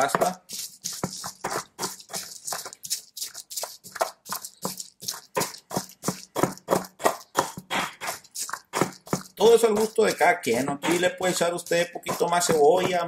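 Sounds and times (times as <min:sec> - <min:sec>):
stone pestle grinding in mortar: 0:00.0 - 0:13.0.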